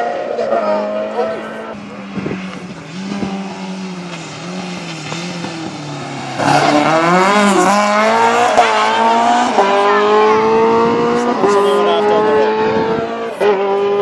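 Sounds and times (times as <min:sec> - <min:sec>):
rally car engine passing: 0:00.0 - 0:14.0.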